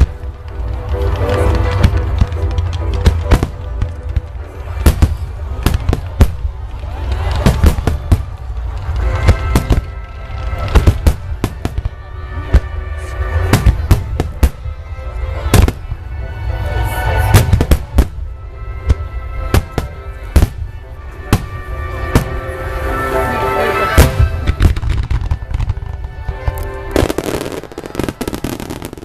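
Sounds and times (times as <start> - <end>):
music with held notes: 0.0 - 6.8, 7.7 - 29.0
fireworks bangs: 0.0 - 16.0, 17.1 - 29.0.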